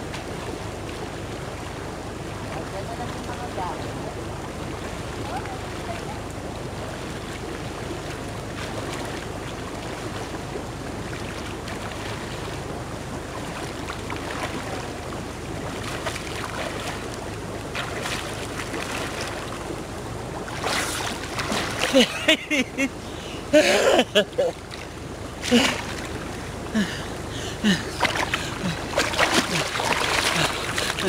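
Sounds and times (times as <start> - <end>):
swimmer splashing: 2.4 - 31.0.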